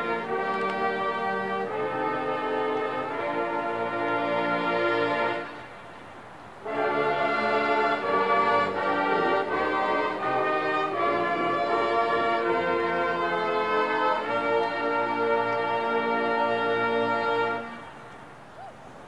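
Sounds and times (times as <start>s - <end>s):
marching band brass chords: 0.0s - 18.2s.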